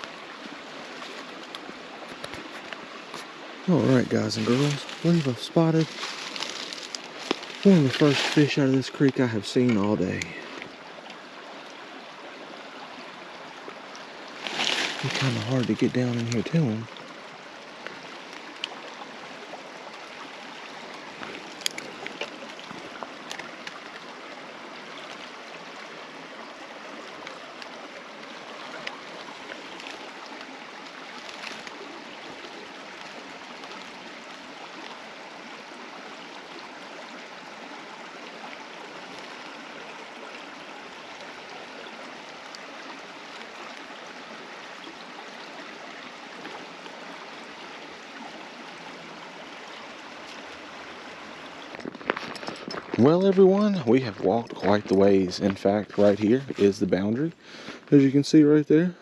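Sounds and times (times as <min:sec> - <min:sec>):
creek running over rocks: 0:00.0 - 0:59.0.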